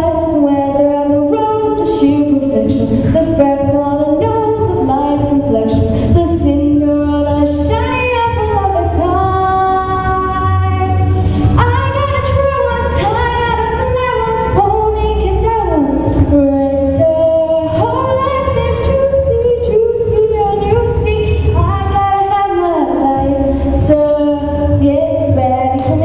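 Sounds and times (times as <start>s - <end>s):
girl singing a show tune: 0.0s - 26.0s.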